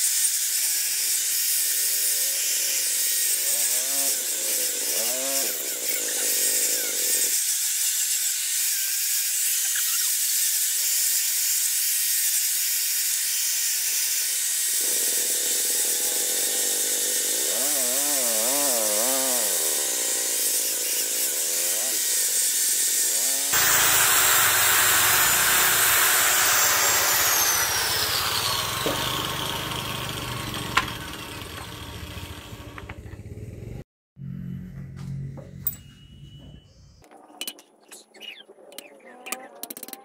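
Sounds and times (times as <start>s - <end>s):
power tool hissing on steel: 0.0s - 32.8s.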